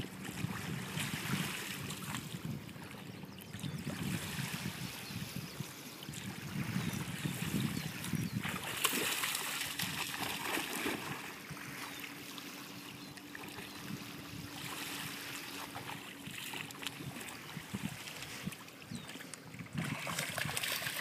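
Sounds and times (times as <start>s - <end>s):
small waves lapping: 0.0s - 21.0s.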